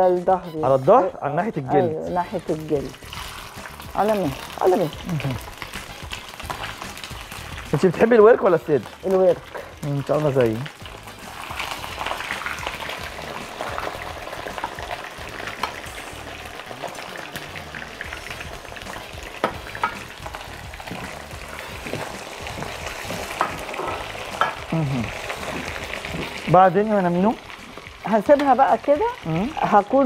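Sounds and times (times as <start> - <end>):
chicken sizzling in a wok: 2.3 - 30.0.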